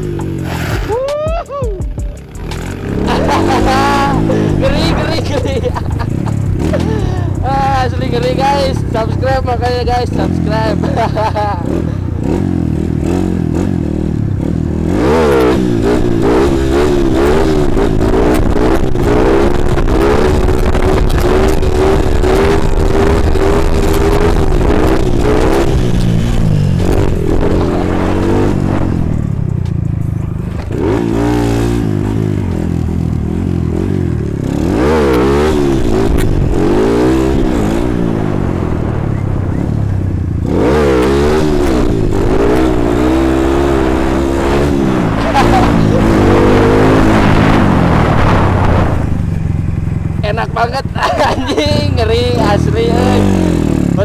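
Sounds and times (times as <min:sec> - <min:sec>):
motorcycle engine revving: 0:00.0 - 0:01.0, 0:01.8 - 0:54.0.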